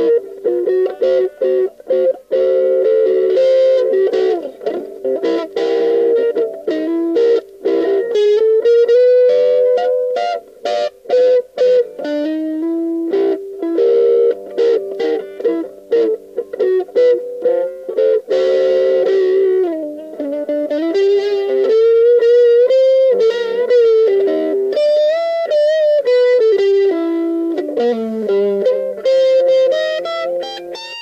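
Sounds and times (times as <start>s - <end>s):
overdriven electric guitar riffs: 0.0s - 31.0s.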